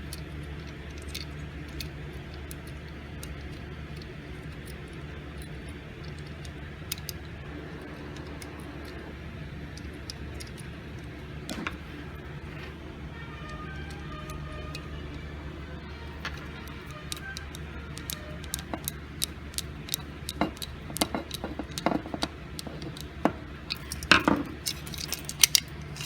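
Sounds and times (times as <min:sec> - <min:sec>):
small metal parts clicking: 0:00.0 - 0:15.3, 0:16.0 - 0:26.0
steady low hum: 0:00.0 - 0:26.0.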